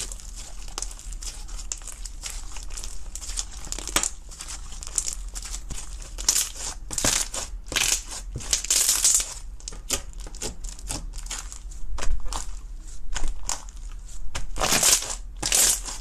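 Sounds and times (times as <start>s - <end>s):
brittle crunching and crackling: 0.0s - 16.0s.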